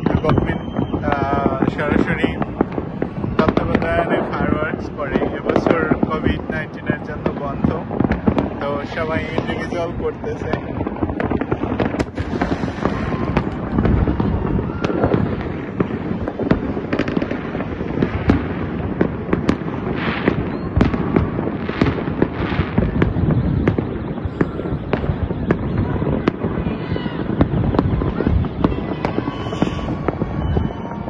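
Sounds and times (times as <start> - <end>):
distant firework bangs: 0.0 - 31.0
firework crackle: 0.0 - 31.0
sharp firework cracks: 0.0 - 31.0.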